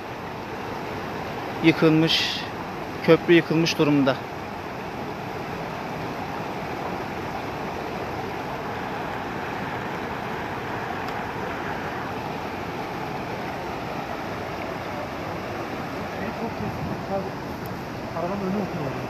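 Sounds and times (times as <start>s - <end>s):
flooded river rushing: 0.0s - 19.0s.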